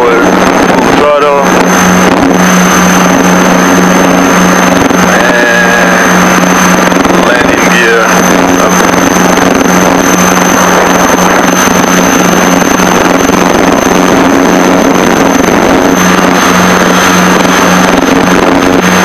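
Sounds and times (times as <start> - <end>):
aircraft engines droning: 0.0 - 19.0.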